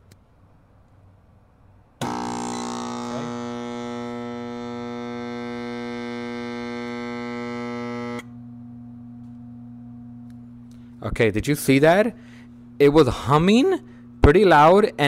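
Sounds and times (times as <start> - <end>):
faint steady hum: 0.0 - 15.0
compressor humming loudly: 1.9 - 15.0.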